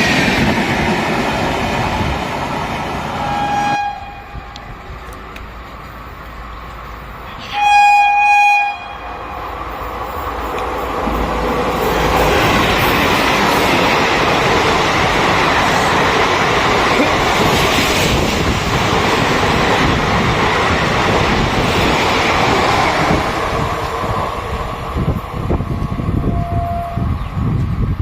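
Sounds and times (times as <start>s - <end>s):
train passing at speed: 0.0s - 28.0s.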